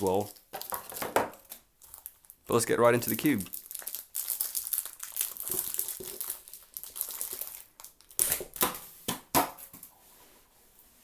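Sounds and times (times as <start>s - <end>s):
plastic wrapping crinkling: 0.0s - 8.9s.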